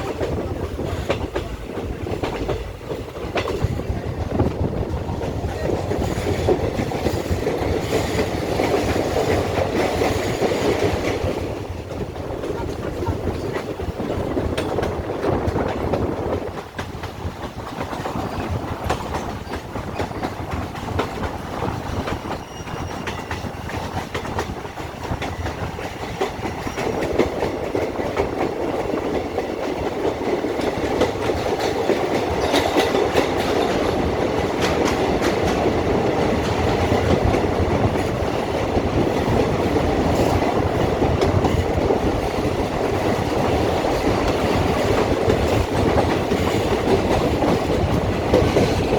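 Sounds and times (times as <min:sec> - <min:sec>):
train wheels clattering over rails: 0:00.0 - 0:48.9.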